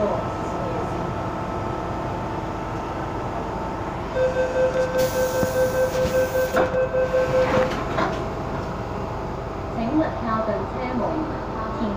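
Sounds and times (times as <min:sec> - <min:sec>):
train humming: 0:00.0 - 0:11.9.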